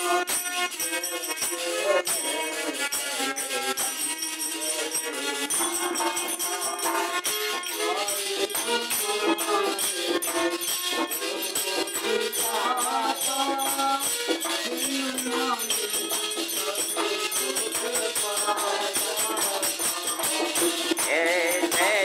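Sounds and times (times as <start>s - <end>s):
man singing: 0.8s - 6.4s, 7.4s - 22.0s
dholak drum beat: 1.2s - 22.0s.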